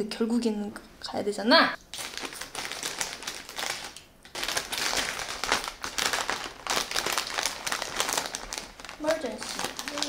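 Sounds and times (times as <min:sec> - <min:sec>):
plastic bag crinkling: 0:01.9 - 0:10.0.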